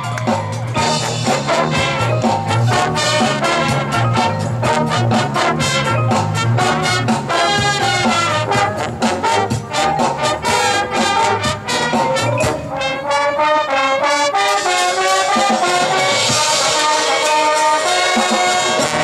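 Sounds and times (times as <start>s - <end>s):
marching band brass playing: 0.0s - 19.0s.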